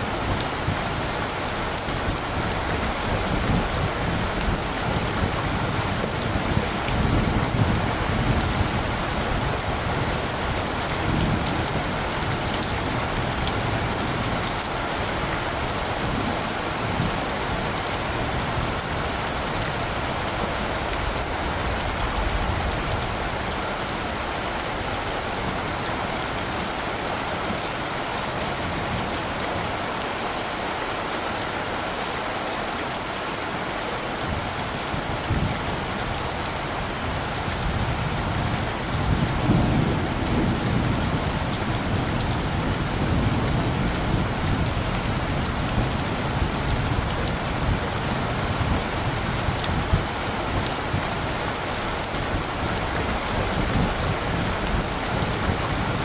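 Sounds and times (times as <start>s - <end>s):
low rumble of thunder: 0.0s - 26.9s, 34.2s - 56.0s
steady rain falling: 0.0s - 56.0s.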